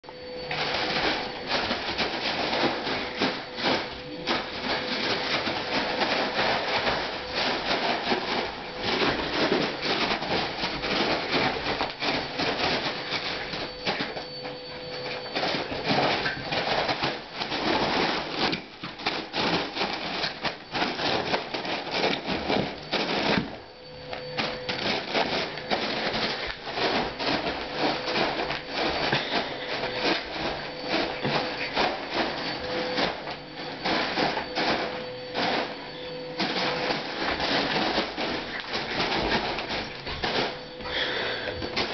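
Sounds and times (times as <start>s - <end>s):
foil balloon crinkling: 0.1s - 41.9s.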